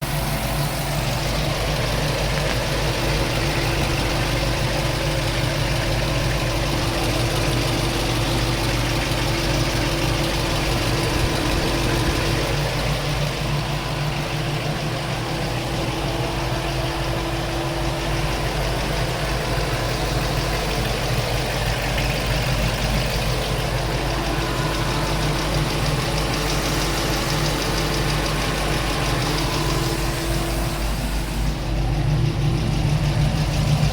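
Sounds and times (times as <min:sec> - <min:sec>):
engine idling: 0:00.0 - 0:33.9
rapid engine ticking: 0:00.0 - 0:33.9.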